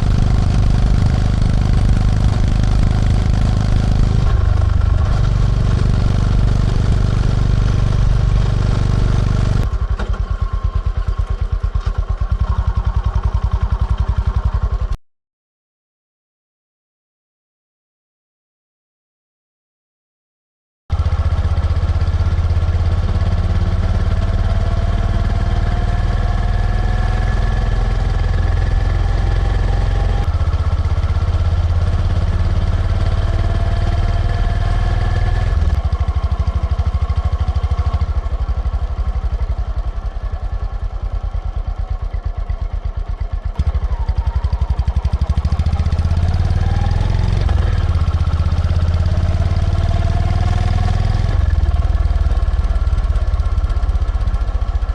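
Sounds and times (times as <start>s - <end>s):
motorcycle engine revving: 0.0s - 15.0s, 20.9s - 54.9s.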